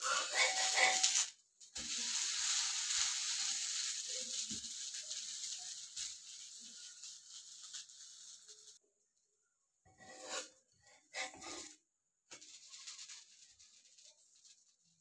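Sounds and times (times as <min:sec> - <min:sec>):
pancake sizzling on iron griddle: 0:00.0 - 0:08.8, 0:09.9 - 0:15.0.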